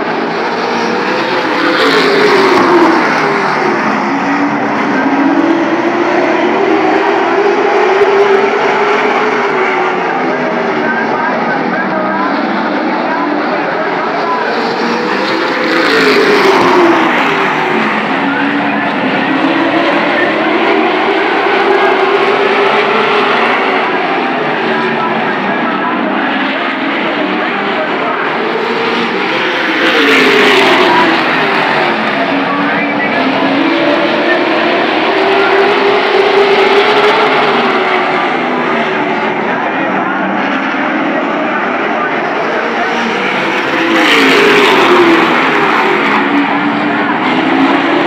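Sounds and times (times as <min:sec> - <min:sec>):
race car engines at full throttle: 0:00.0 - 0:48.0.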